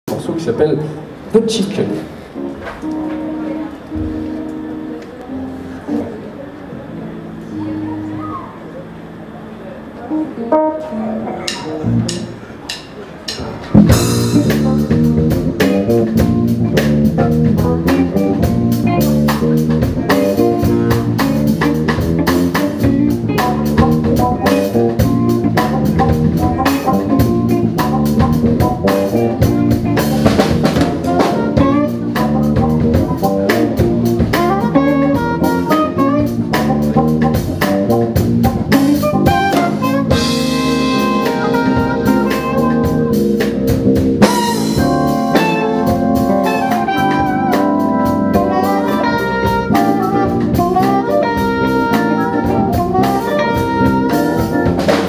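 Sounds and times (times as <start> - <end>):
jazz-funk band playing: 1.0 - 55.0.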